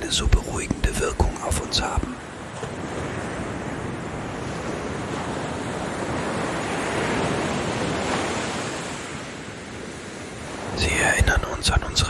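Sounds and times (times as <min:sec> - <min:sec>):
ocean waves washing onto beach: 0:00.0 - 0:12.0.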